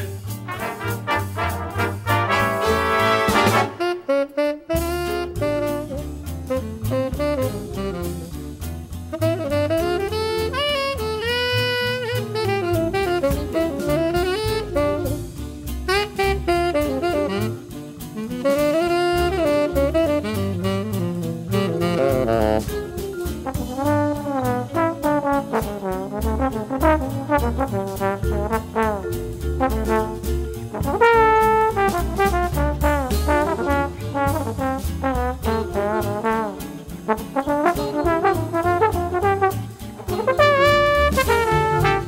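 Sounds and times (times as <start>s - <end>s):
drums keeping time: 0.0s - 42.0s
trombone solo: 0.4s - 8.3s, 9.2s - 42.0s
walking bass line: 4.8s - 42.0s.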